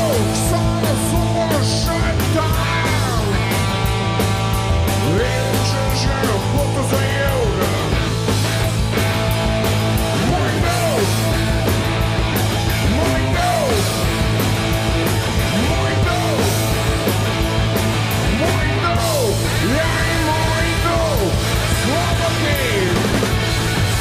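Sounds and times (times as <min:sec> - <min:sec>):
gliding lead guitar line: 0:00.0 - 0:24.0
rock band playing loud: 0:00.0 - 0:24.0.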